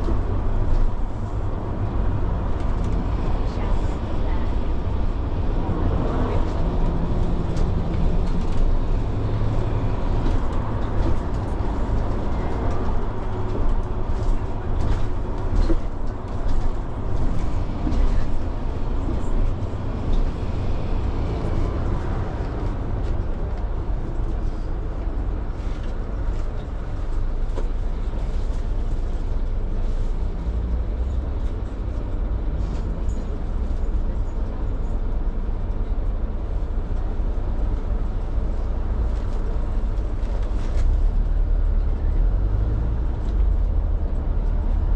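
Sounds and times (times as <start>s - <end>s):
vehicle rumbling: 0.0s - 44.9s.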